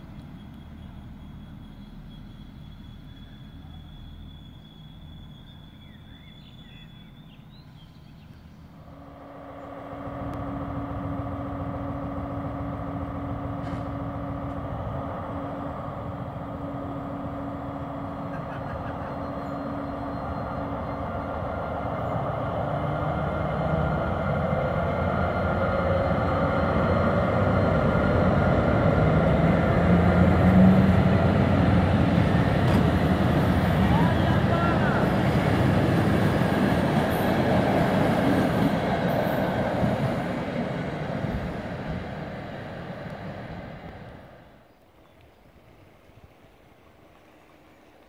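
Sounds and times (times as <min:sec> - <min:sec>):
diesel locomotive passing: 0:00.0 - 0:48.0
distant diesel railcar rumble: 0:00.0 - 0:48.0.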